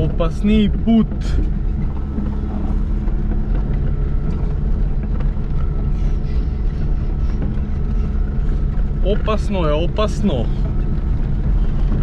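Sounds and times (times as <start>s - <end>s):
car engine running: 0.0s - 12.0s
light knocks and rattles: 0.0s - 12.0s.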